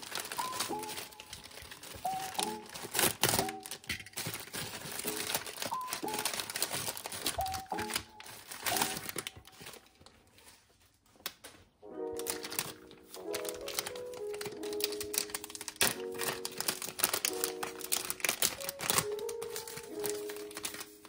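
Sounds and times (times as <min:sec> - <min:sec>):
soft background music: 0:00.0 - 0:10.7, 0:11.8 - 0:21.0
packaging crinkling and rustling: 0:00.0 - 0:21.0.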